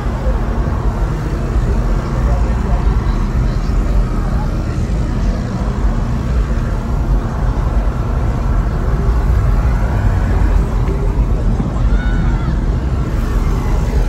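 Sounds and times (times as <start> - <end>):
faint distant voices: 0.0 - 14.0
vehicle engines running: 0.0 - 14.0.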